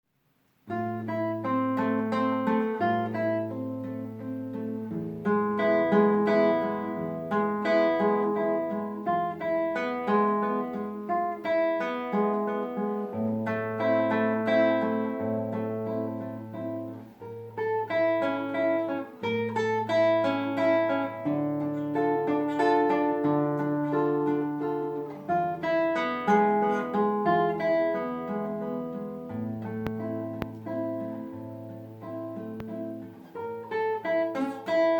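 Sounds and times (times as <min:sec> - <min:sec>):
classical guitar fingerpicking: 0:00.5 - 0:34.9.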